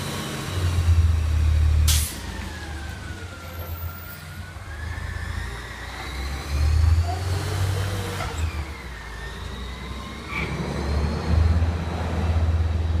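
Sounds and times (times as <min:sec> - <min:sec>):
garbage truck engine rumbling: 0:00.0 - 0:13.0.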